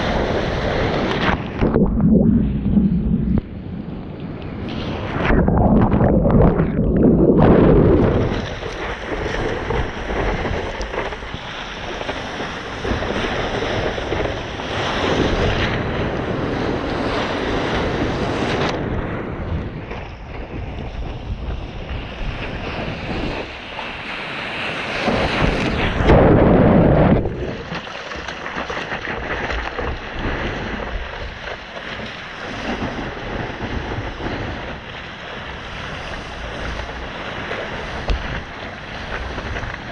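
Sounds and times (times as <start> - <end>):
wind buffeting microphone: 0.0 - 28.0, 28.9 - 39.9
ocean surf breaking: 0.0 - 39.9.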